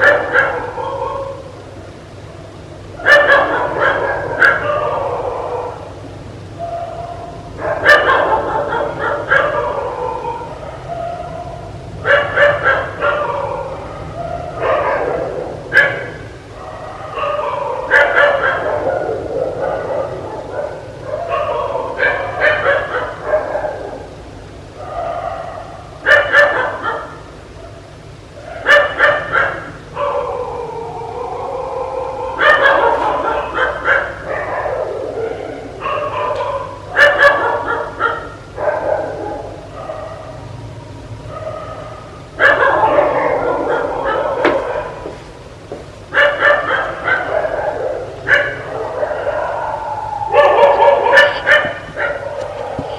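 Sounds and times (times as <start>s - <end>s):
dog barking: 0.0s - 1.5s, 3.0s - 6.0s, 6.6s - 24.1s, 24.8s - 27.8s, 28.4s - 40.5s, 41.3s - 45.2s, 46.1s - 52.9s
dog drawn-out calls: 0.0s - 1.6s, 3.0s - 6.0s, 6.6s - 24.1s, 24.8s - 40.6s, 41.2s - 45.2s, 46.1s - 52.9s.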